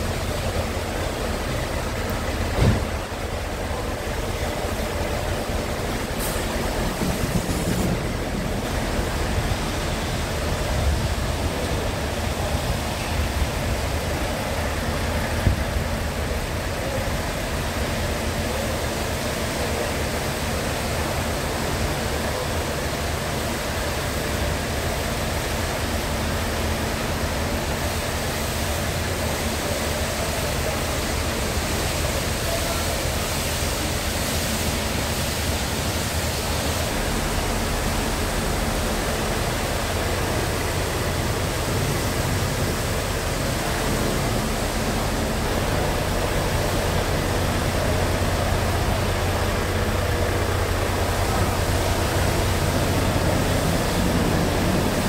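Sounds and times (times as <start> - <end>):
constant hiss: 0.0 - 55.0
diesel engine idling: 0.0 - 55.0.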